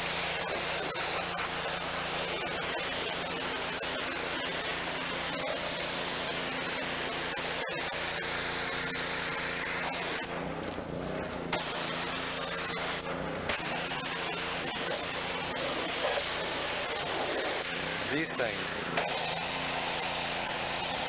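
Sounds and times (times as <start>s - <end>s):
pressure washer engine humming: 0.0s - 21.0s
pressure washer water spray hissing: 0.0s - 21.0s.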